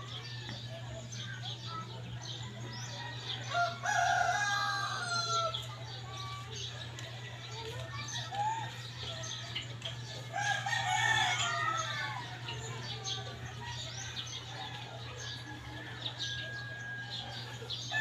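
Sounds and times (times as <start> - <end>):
chickens clucking: 0.0 - 18.0
roosters crowing: 2.2 - 18.0.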